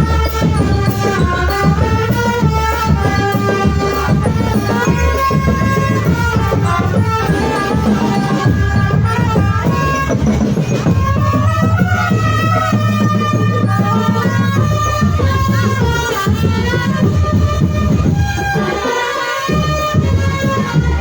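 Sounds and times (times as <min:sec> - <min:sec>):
marching drums beating: 0:00.0 - 0:21.0.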